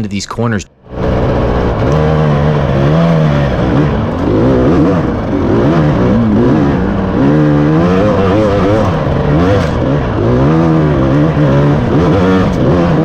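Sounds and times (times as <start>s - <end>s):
dirt bike engine revving: 0.7s - 13.0s.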